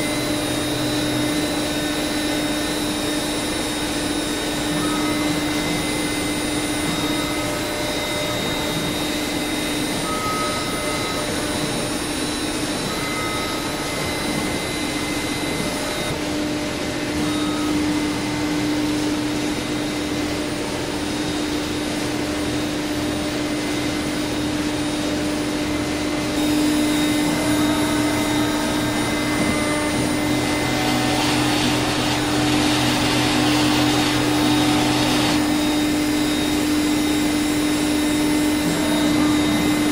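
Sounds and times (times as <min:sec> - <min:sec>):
cnc router whirring: 0:00.0 - 0:39.9.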